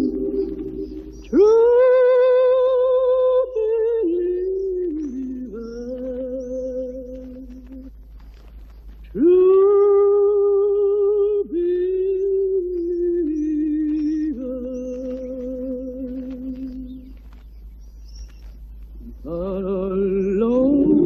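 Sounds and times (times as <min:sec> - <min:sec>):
person singing unaccompanied: 0:00.0 - 0:08.5, 0:09.1 - 0:17.4, 0:19.0 - 0:21.0.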